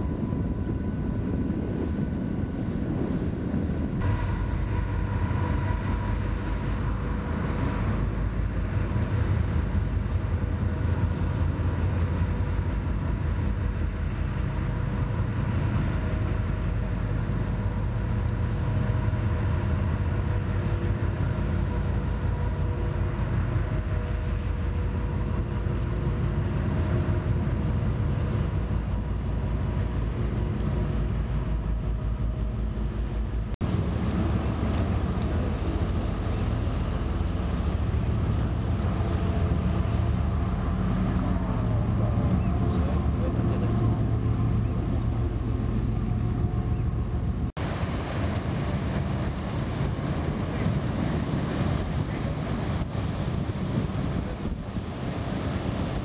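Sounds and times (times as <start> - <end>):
ship engines droning: 0.0 - 56.0
wind rumbling on microphone: 0.0 - 56.0.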